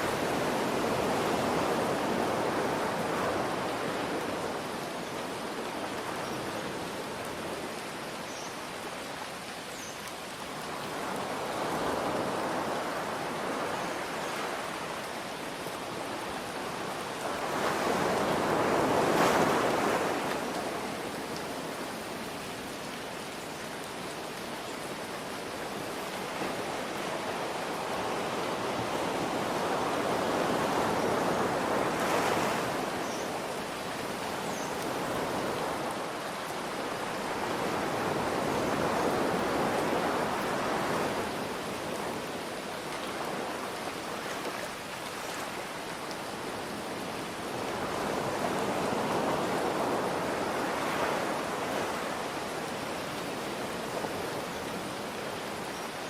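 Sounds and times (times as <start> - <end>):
ocean surf washing: 0.0 - 56.0.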